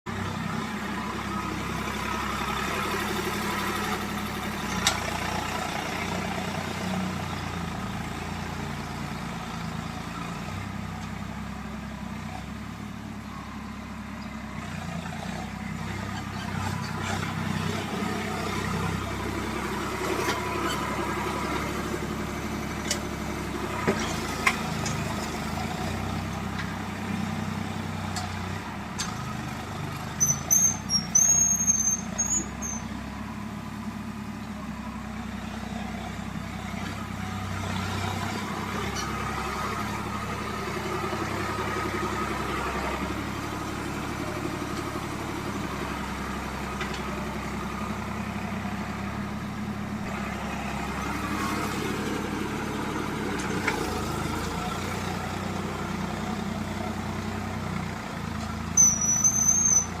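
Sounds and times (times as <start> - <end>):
tractor engine under load: 0.1 - 60.0.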